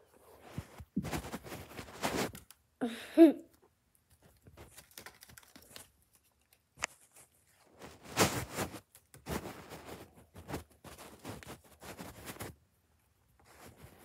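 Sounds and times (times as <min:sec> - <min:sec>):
cat rustling and scuffling: 0:00.0 - 0:02.7, 0:04.0 - 0:14.0.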